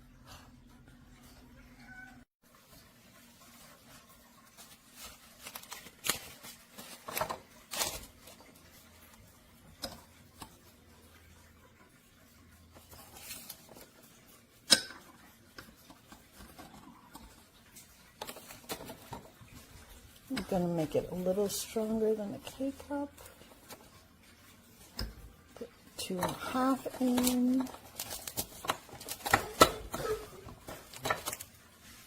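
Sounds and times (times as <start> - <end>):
kitchen items clicking and tapping: 4.6 - 32.0.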